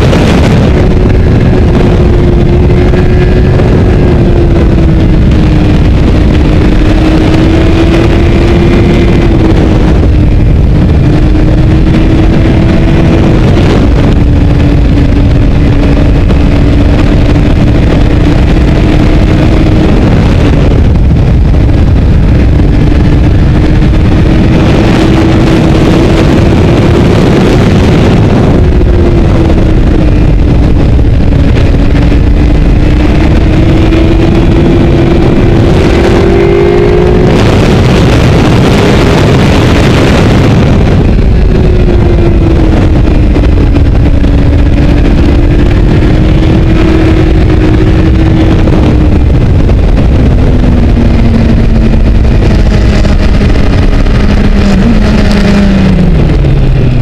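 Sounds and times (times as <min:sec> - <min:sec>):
motorcycle engine at high revs: 0:00.0 - 0:57.0
wind buffeting on microphone: 0:00.0 - 0:57.0.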